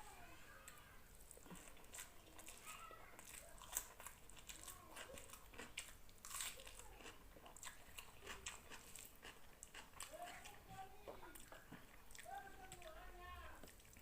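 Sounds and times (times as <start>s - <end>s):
person chewing food: 0.7s - 13.0s, 13.6s - 14.0s.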